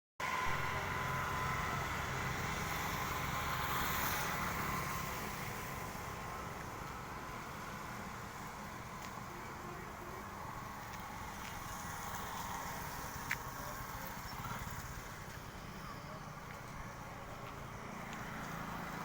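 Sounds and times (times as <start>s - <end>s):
faint high whine: 0.2s - 19.0s
heavy vehicle engine running: 0.2s - 19.0s.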